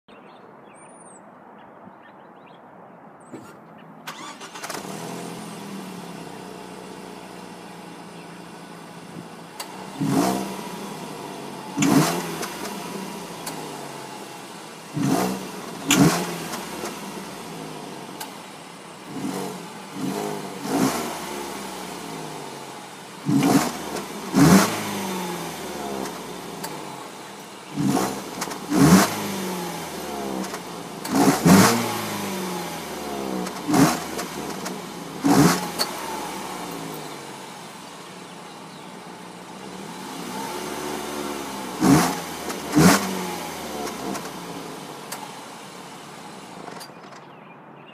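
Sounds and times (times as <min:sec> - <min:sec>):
car engine starting and idling: 0:03.4 - 0:47.9.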